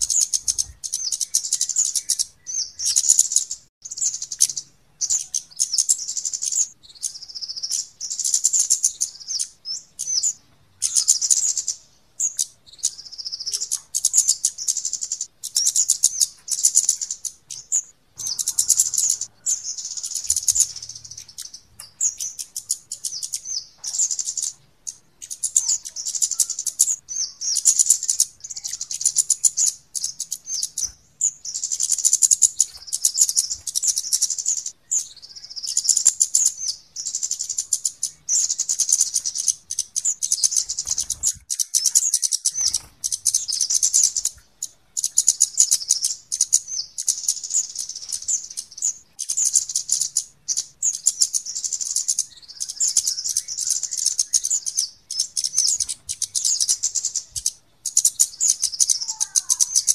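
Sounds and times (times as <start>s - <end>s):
high thin ticking bird chirps: 0.0s - 59.9s.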